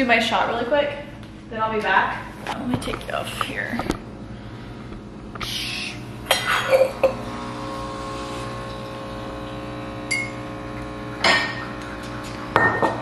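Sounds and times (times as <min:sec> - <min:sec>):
steady humming tone: 0:00.0 - 0:13.0.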